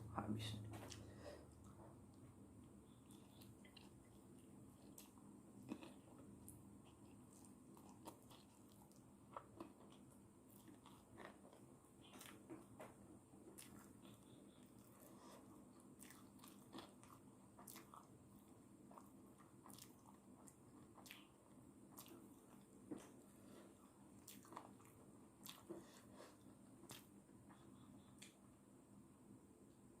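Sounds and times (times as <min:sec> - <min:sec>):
chewing noodles: 0:00.9 - 0:28.4.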